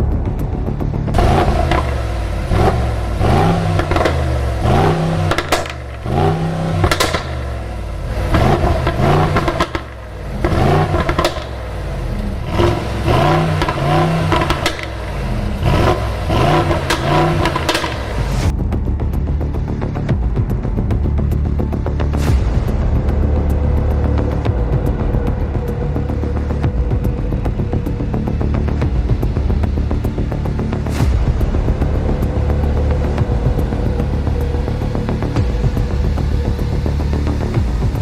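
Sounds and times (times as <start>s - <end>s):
car engine revving: 0.0s - 38.0s
exhaust cracks: 0.0s - 38.0s.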